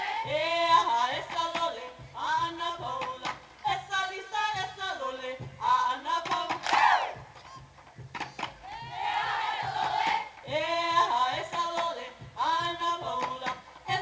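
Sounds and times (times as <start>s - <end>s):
drum strikes: 0.0s - 14.0s.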